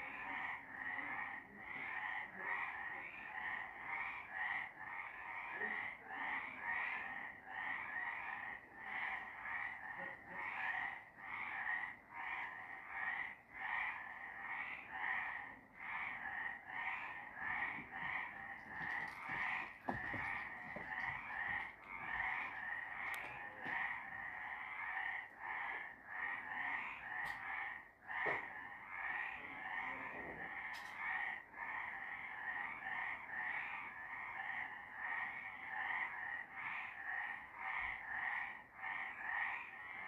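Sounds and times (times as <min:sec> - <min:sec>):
frogs croaking: 0:00.0 - 0:40.0.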